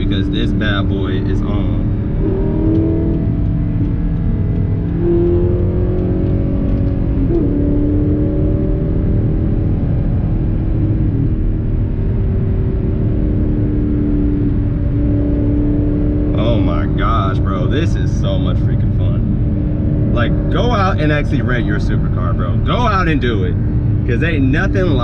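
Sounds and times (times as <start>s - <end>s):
car engine running: 0.0s - 25.0s
low rumble: 0.0s - 25.0s.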